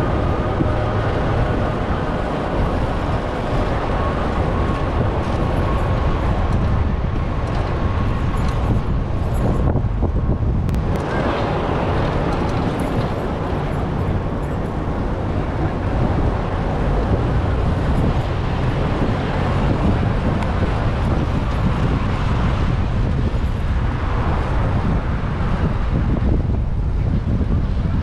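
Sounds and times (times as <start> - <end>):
city traffic: 0.0 - 28.0
wind noise on microphone: 0.0 - 28.0.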